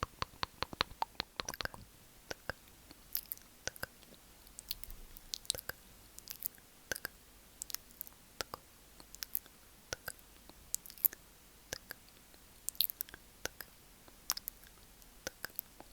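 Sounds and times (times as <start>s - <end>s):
wet mouth clicks and smacks: 0.0s - 3.9s, 4.6s - 12.0s, 12.7s - 15.9s.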